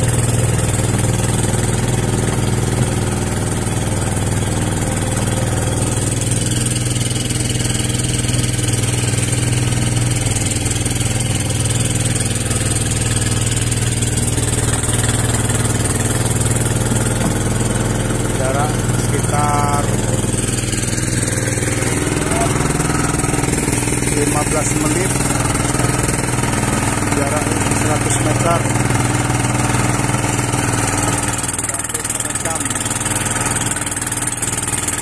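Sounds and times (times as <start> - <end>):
small boat engine running: 0.0 - 35.0.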